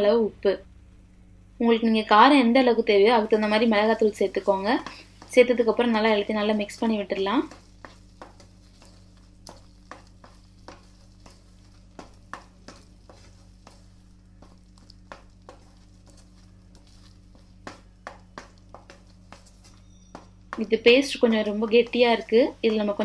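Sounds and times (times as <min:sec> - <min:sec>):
faint butter sizzle: 0:02.3 - 0:23.0
wooden spatula scraping a pan: 0:03.3 - 0:23.0.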